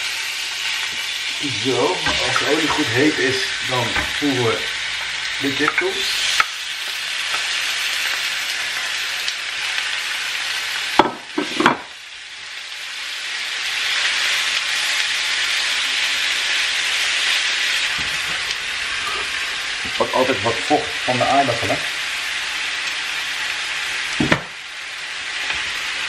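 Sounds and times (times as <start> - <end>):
chicken sizzling in a frying pan: 0.0 - 26.0.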